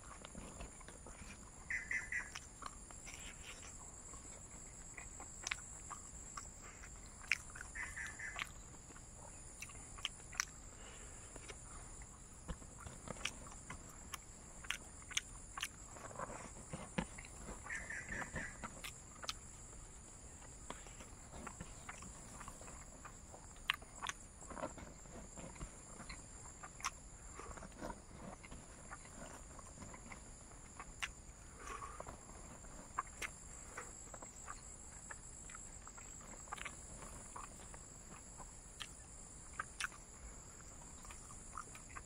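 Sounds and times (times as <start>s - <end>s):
chewing crunchy food: 0.0s - 42.0s.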